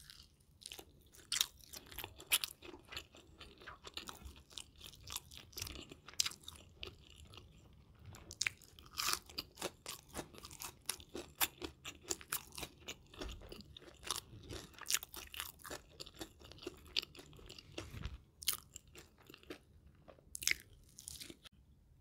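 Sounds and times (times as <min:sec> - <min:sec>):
chewing crispy fried chicken: 0:00.0 - 0:21.5.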